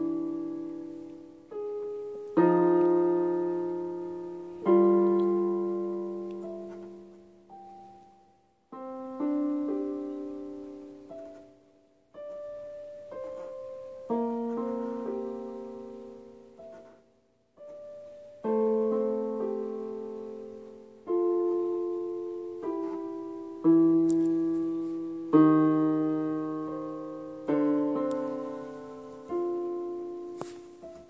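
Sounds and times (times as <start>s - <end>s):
electronic keyboard piano melody: 0.0s - 31.0s.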